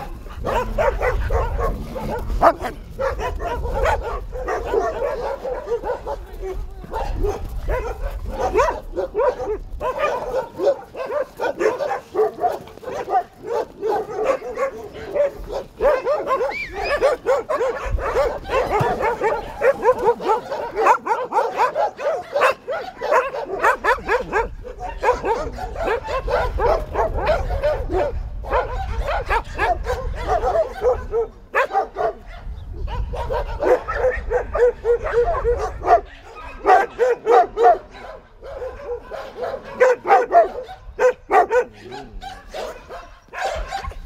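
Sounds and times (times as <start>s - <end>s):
dogs yelping whining and barking: 0.0s - 44.0s.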